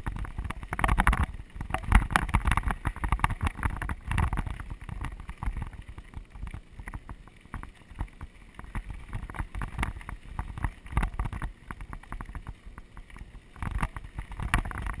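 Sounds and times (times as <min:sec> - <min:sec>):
bike tyres crunching on dirt: 0:00.0 - 0:15.0.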